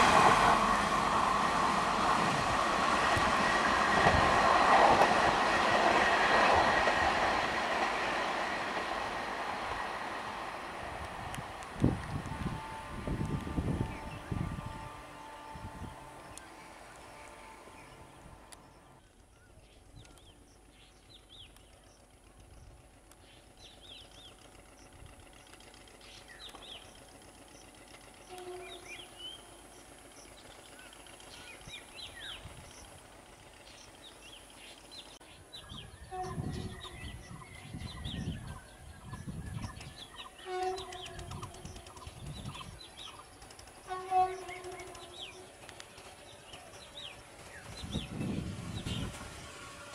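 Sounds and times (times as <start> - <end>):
approaching train rumble: 0.0 - 49.9.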